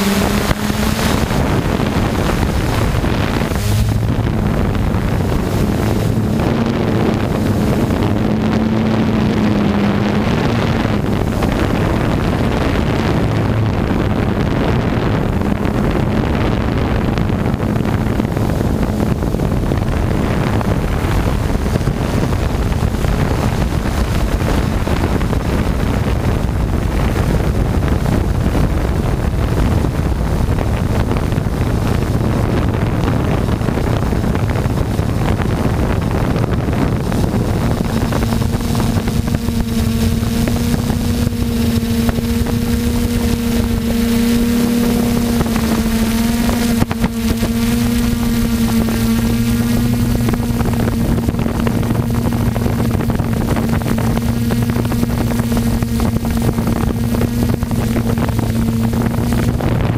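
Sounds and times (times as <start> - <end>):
drone motors and propellers buzzing: 0.0 - 59.9
wind rushing over microphone: 0.0 - 59.9.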